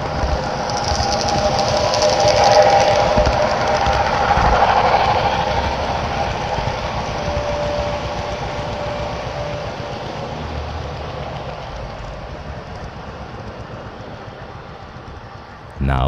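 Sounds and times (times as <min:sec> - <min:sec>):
model train rolling: 0:00.0 - 0:15.8
faint steady tones: 0:00.0 - 0:16.0.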